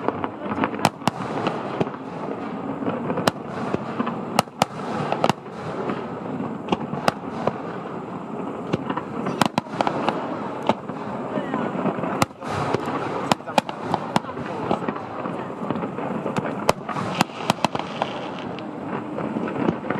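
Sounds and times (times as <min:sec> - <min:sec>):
continuous background noise: 0:00.0 - 0:19.9
fireworks shells bursting: 0:00.0 - 0:19.9.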